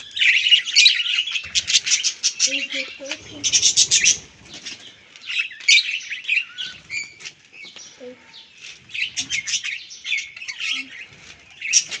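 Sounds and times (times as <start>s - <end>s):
parrots chirping and squawking: 0.0s - 12.0s.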